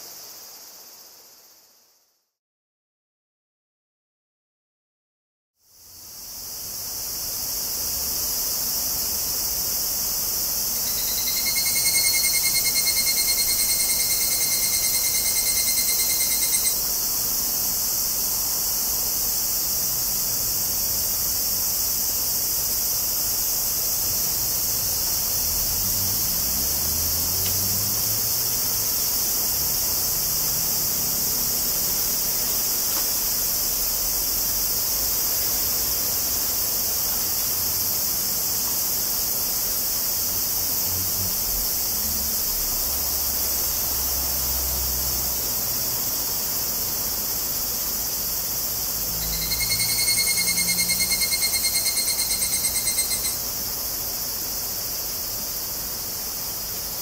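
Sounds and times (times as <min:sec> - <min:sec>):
steady high hiss: 0:00.0 - 0:02.2, 0:05.6 - 0:57.0
cicada pulsed ringing call: 0:05.8 - 0:57.0.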